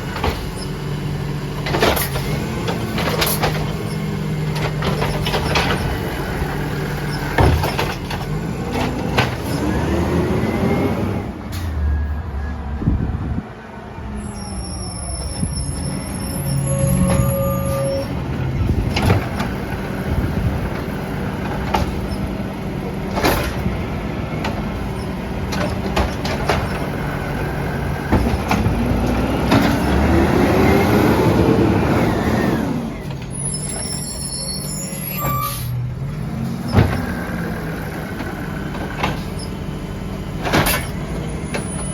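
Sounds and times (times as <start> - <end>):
garbage truck engine revving: 0.0 - 41.9.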